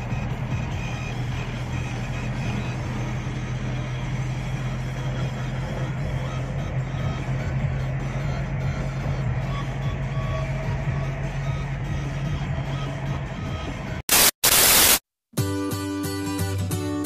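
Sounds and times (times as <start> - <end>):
car engine hum: 0.0 - 14.1
road and tyre noise: 0.0 - 15.1.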